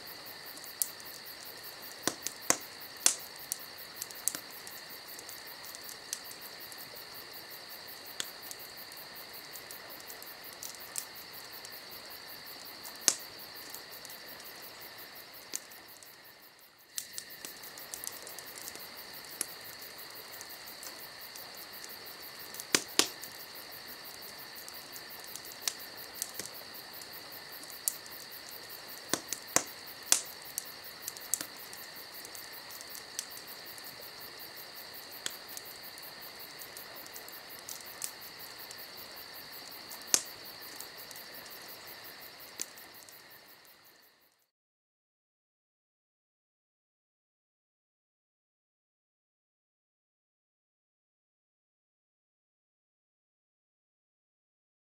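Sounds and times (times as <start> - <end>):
wood fire popping and crackling: 0.0 - 44.0
crickets chirping: 0.0 - 44.5.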